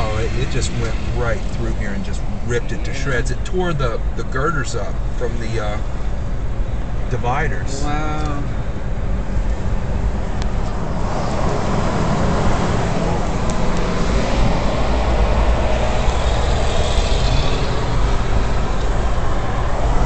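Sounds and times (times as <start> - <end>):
car road noise: 0.0 - 20.0.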